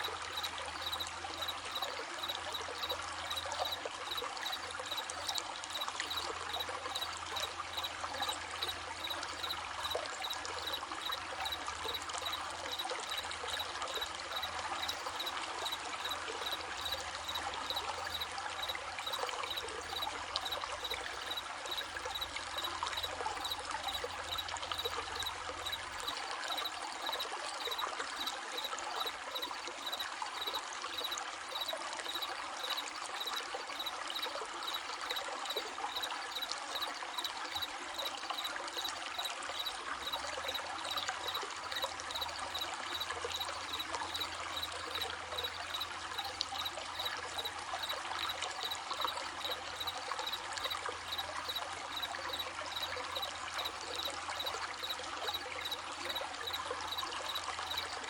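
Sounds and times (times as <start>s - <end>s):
crickets chirping: 0.0s - 58.0s
stream babbling: 0.0s - 58.0s.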